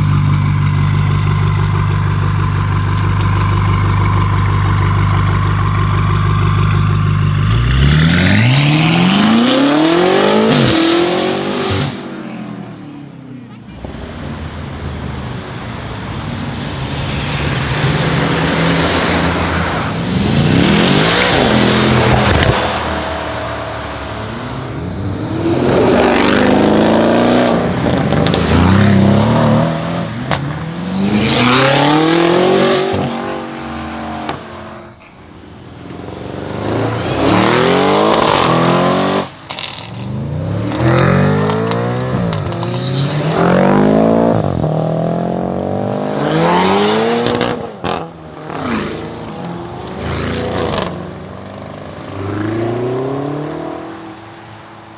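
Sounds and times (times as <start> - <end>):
car engine accelerating hard: 0.0 - 12.6, 13.7 - 54.3.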